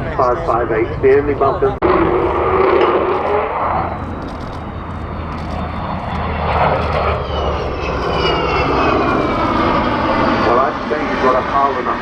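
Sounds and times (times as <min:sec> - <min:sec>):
high whine gliding downward: 0:00.0 - 0:12.0
jet engines roaring overhead: 0:00.0 - 0:12.0.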